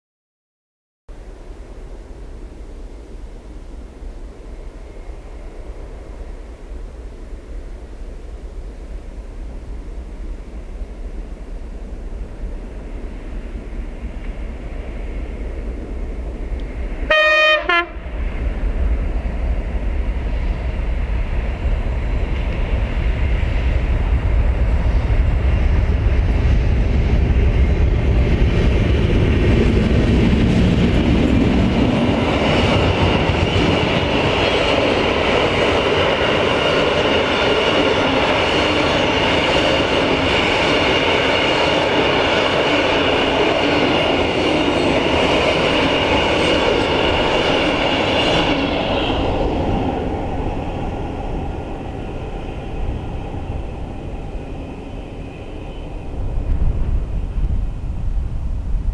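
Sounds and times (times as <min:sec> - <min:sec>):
diesel locomotives rumbling: 0:01.1 - 0:58.9.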